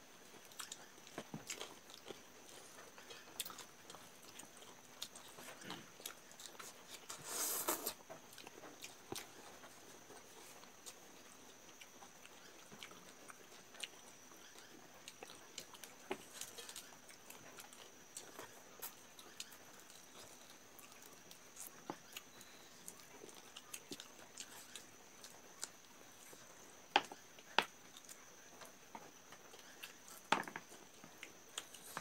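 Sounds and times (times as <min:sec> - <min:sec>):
chewing: 0:00.2 - 0:32.0.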